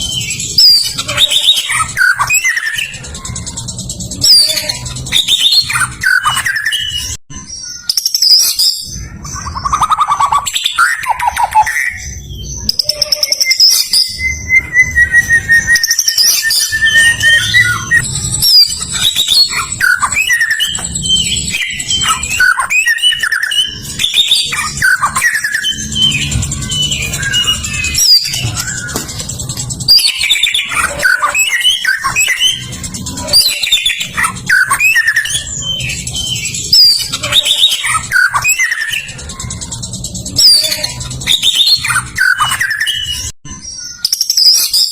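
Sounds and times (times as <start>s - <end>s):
bird singing whistles and trills: 0.0s - 44.9s.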